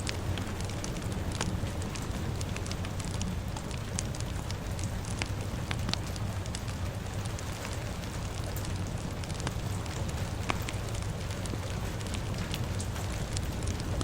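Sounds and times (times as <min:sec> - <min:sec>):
fire crackling and popping: 0:00.0 - 0:14.0
rain hissing: 0:00.0 - 0:14.0.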